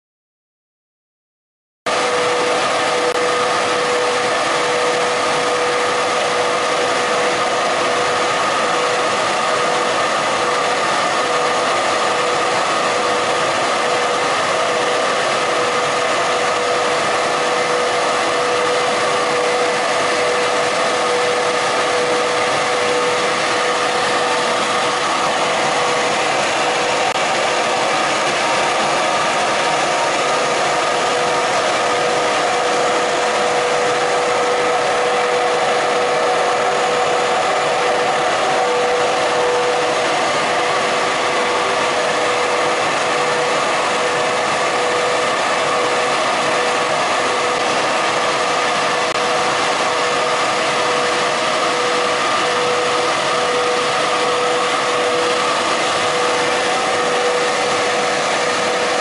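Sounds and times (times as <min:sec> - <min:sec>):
machine hissing steadily: 0:01.9 - 0:59.0.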